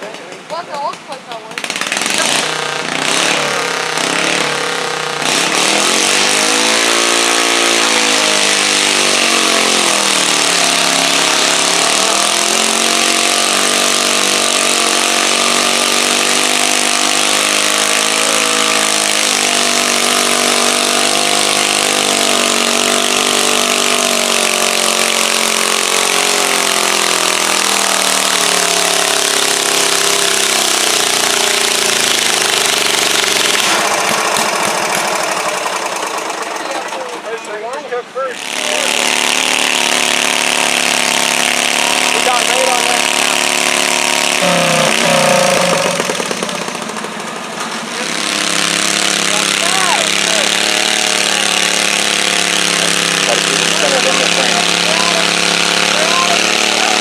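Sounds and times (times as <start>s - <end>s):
garden tractor engine under load: 0.0s - 57.0s.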